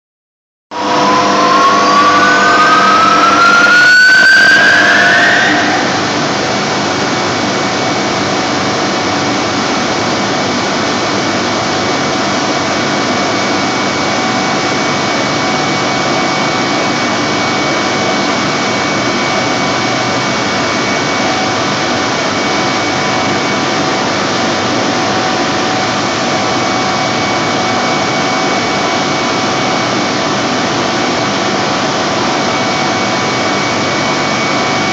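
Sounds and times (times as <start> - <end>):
turbocompressor whine and hum: 0.7 - 34.9.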